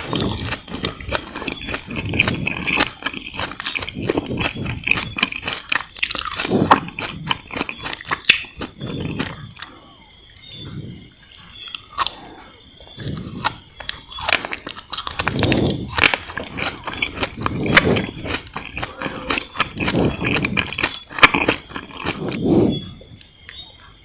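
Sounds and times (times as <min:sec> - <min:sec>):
chewing jelly candy: 0:00.0 - 0:23.6.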